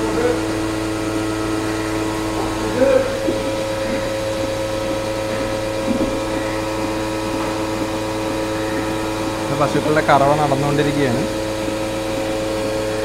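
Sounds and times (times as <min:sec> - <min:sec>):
held machine tones: 0:00.0 - 0:13.0
milking machinery humming: 0:00.0 - 0:13.0.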